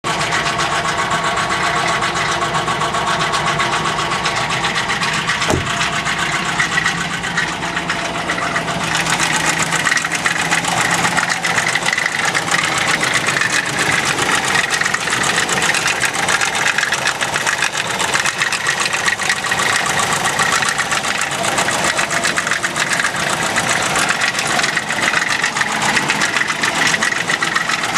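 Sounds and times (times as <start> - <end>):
car engine idling with knocking: 0.0 - 27.9.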